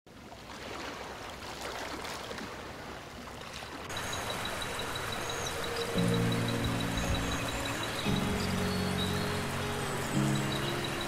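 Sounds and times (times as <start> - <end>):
river water rushing: 0.2 - 11.0.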